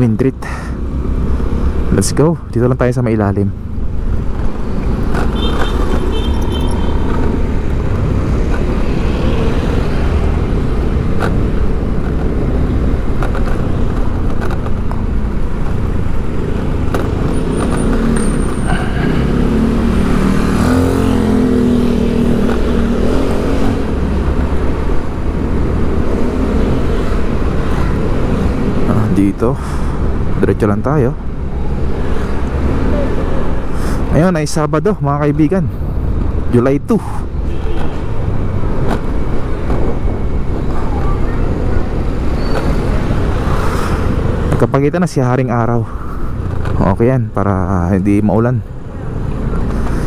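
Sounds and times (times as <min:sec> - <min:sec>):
close vehicle engine: 0:00.0 - 0:50.0
road traffic rumble: 0:00.0 - 0:50.0.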